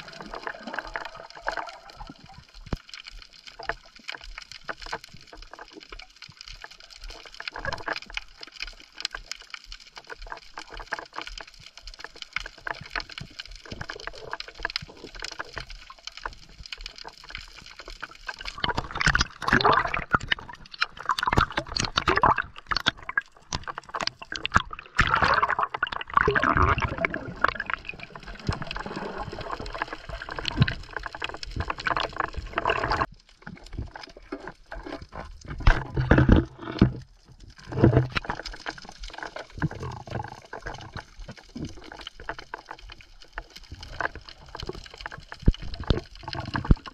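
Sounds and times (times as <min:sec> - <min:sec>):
splashing and rushing water: 0:00.0 - 0:09.3, 0:10.0 - 0:46.9
underwater crackling clicks: 0:00.0 - 0:46.9
water sloshing and gurgling: 0:00.0 - 0:46.9.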